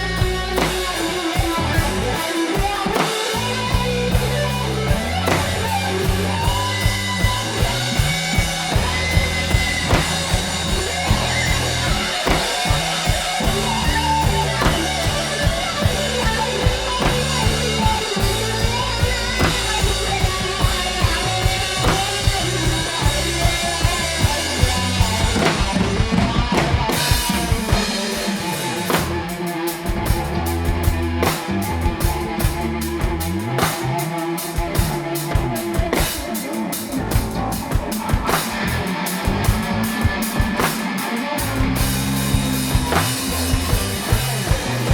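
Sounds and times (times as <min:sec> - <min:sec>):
bass guitar: 0:00.0 - 0:44.9
drum kit beat: 0:00.0 - 0:44.9
electric guitar: 0:00.0 - 0:44.9.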